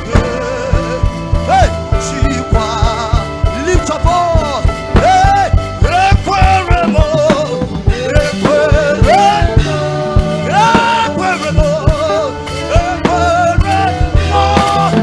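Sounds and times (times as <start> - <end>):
person singing: 0.0 - 15.0
steady drum beat: 0.0 - 15.0
worship band music: 0.0 - 15.0.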